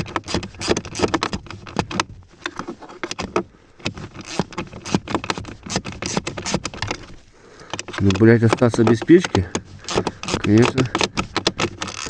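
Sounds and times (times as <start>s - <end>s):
tools clicking and rattling: 0.0s - 12.0s.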